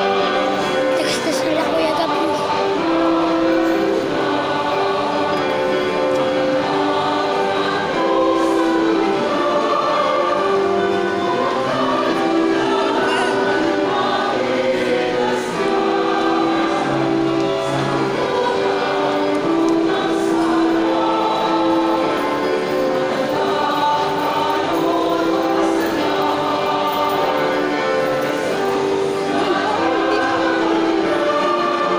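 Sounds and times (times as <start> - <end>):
choir singing a hymn: 0.0 - 31.9.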